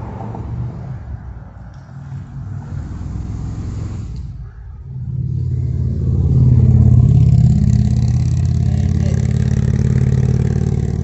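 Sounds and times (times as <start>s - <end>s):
rumble through bridge deck: 0.0s - 11.0s
vehicle engine hum: 0.0s - 11.0s.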